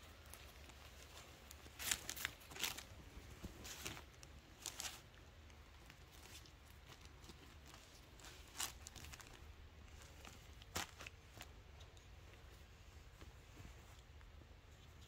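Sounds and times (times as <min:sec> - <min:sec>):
cloth rustling: 0:00.0 - 0:14.3.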